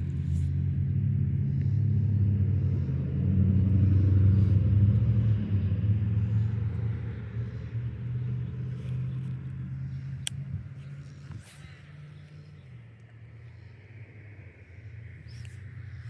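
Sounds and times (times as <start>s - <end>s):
passing motor vehicle engine rumble: 0.0s - 16.0s.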